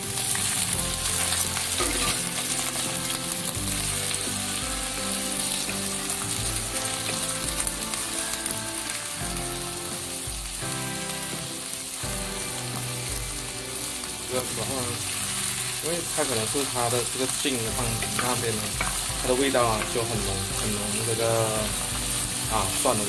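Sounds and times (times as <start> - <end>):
garlic sizzling in hot oil: 0.0 - 23.0.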